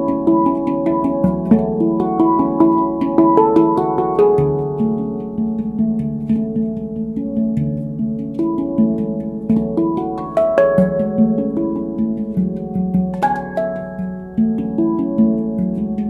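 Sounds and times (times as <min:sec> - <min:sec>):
handpan notes ringing: 0:00.0 - 0:16.0.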